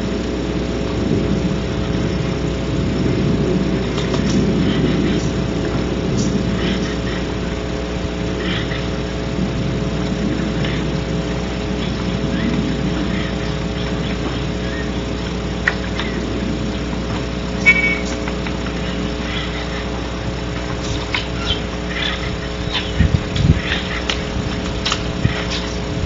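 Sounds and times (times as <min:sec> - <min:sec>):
electrical hum: 0:00.0 - 0:26.0
low engine-like rumble: 0:00.0 - 0:26.0.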